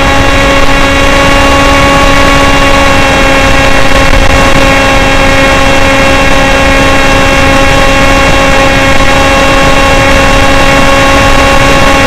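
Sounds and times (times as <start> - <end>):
electric motor and propeller whine: 0.0 - 12.0
rushing airflow: 0.0 - 12.0.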